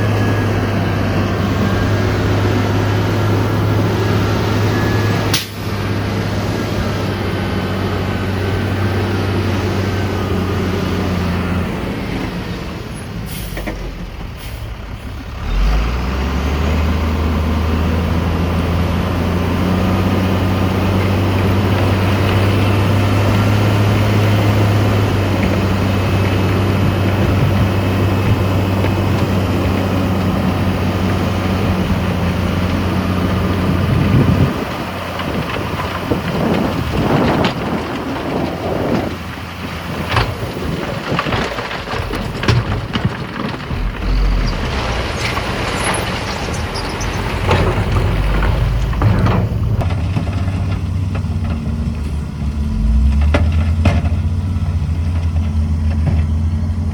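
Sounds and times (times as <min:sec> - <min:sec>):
diesel machinery engine under load: 0:00.0 - 0:56.9.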